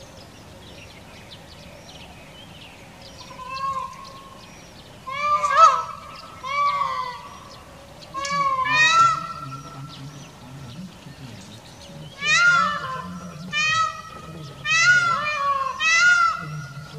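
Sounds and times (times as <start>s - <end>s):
peafowl wailing calls: 0.0s - 16.9s
small birds chirping: 0.0s - 16.9s.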